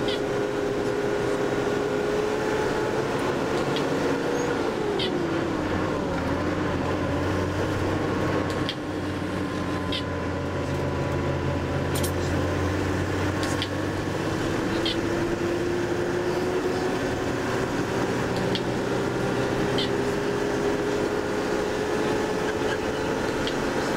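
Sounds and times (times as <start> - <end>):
bus engine running: 0.0 - 23.9.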